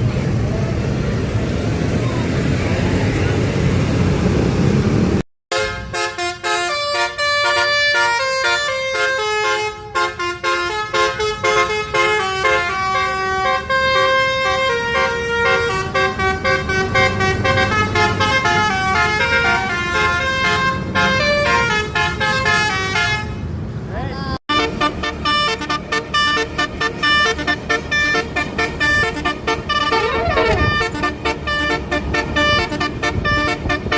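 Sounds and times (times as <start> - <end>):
engine rumble: 0.0 - 33.9
bus horn playing a fast melody: 5.5 - 23.5, 24.5 - 33.9.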